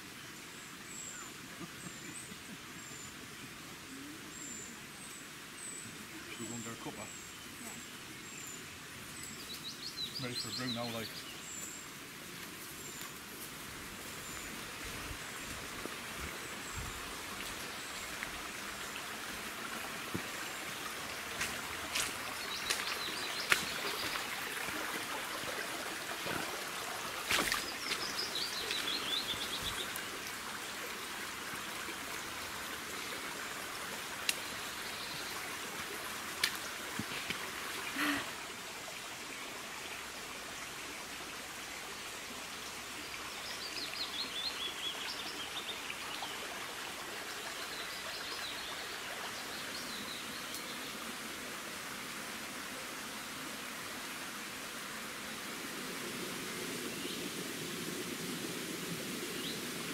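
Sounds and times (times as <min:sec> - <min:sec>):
stream rushing: 0:01.2 - 0:59.9.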